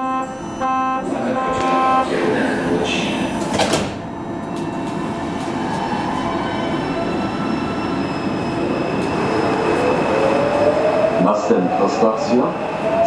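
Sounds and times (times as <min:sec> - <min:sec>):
train doors shutting: 0:00.0 - 0:12.3
train rumbling pulling away: 0:00.0 - 0:13.0.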